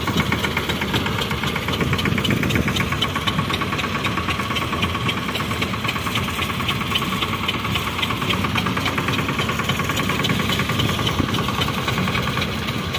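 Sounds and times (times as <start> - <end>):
tractor diesel engine clattering: 0.0 - 12.9.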